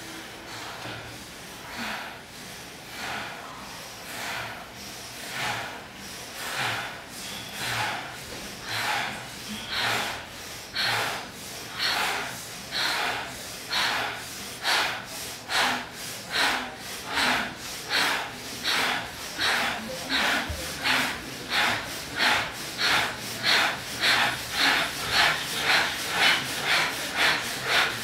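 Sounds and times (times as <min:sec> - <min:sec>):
group breathing in unison: 0:00.0 - 0:28.0.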